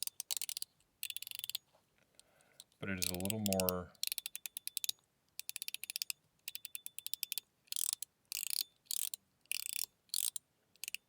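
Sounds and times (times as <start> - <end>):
fidget slider detent clicks: 0.0 - 1.6, 2.6 - 11.0.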